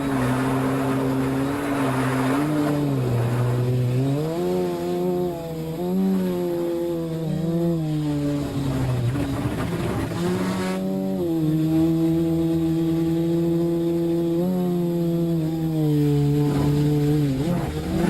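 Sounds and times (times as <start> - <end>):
drone motors humming: 0.0 - 18.0.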